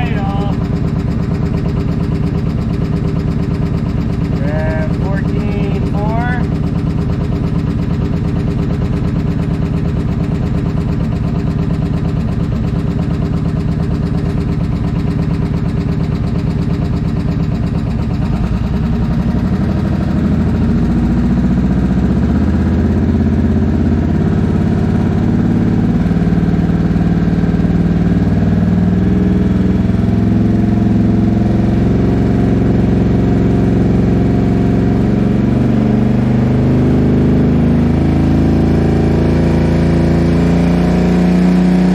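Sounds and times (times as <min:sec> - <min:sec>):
motorcycle engine idling: 0:00.0 - 0:39.6.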